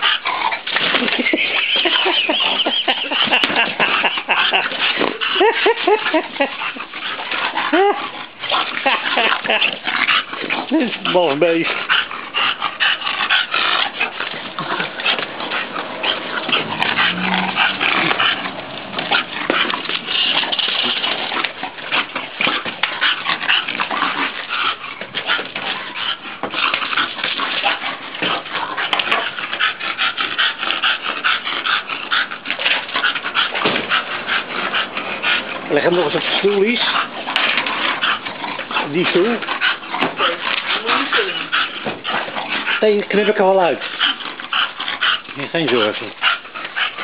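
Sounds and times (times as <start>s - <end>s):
dog panting noisily: 0.0s - 47.0s.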